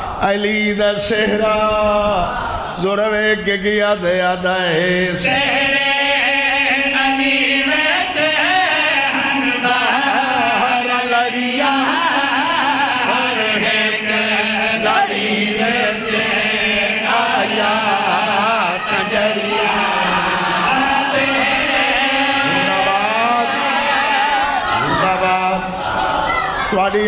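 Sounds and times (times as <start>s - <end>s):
men singing a chant: 0.0s - 26.1s.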